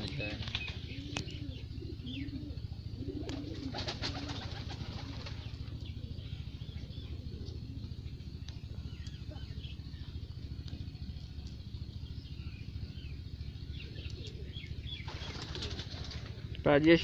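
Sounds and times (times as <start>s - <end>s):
sharp clicks and flutters: 0.0s - 1.4s, 3.2s - 6.2s, 6.8s - 17.0s
birds chirping: 0.0s - 17.0s
low rumble: 0.0s - 17.0s
pigeons cooing: 0.0s - 17.0s.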